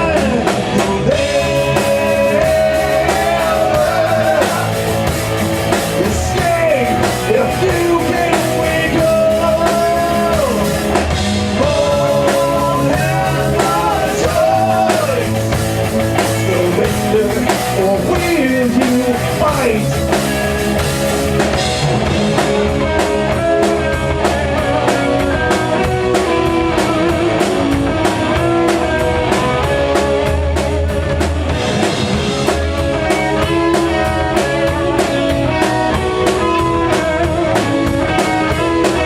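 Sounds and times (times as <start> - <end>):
bass: 0.0 - 39.0
drum kit beats: 0.0 - 39.0
electric guitars: 0.0 - 39.0.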